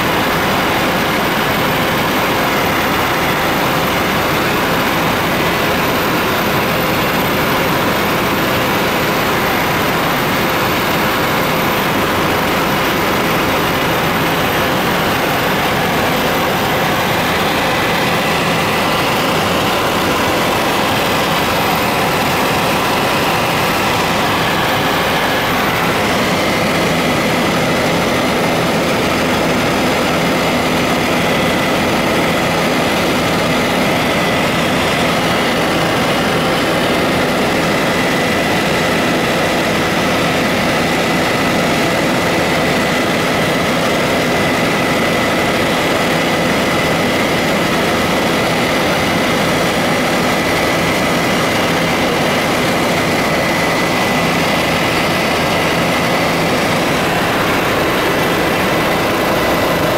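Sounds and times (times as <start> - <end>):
helicopter engine and rotors droning: 0.0 - 59.9.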